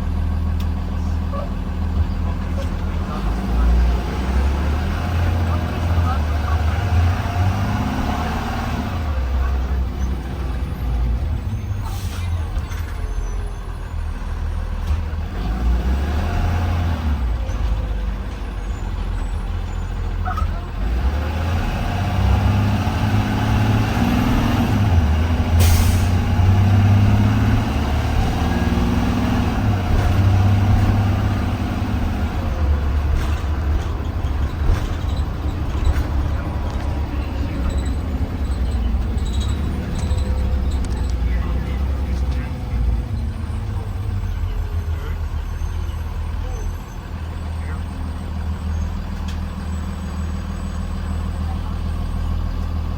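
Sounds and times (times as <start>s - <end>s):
bus engine rumble: 0.0s - 52.9s
road noise: 0.0s - 52.9s.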